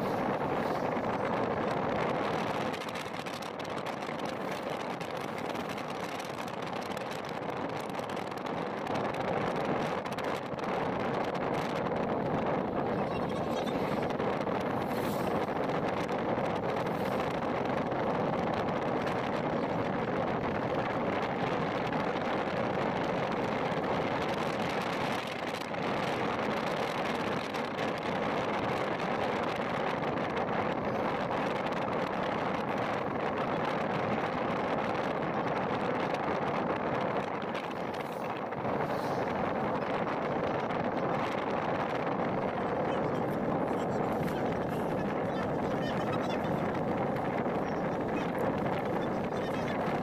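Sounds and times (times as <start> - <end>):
car road and wind noise: 0.0 - 50.0.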